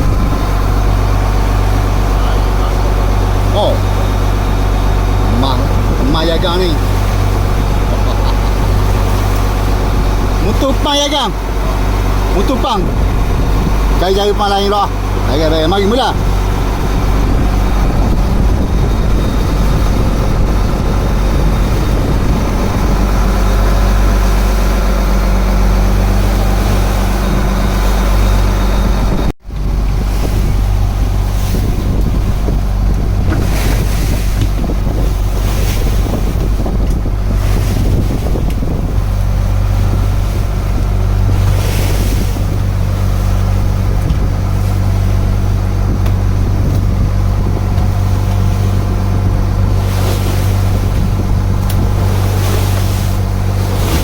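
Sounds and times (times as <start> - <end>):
boat engine droning: 0.0 - 54.0
sea noise: 0.0 - 54.0
wind on microphone: 0.0 - 54.0.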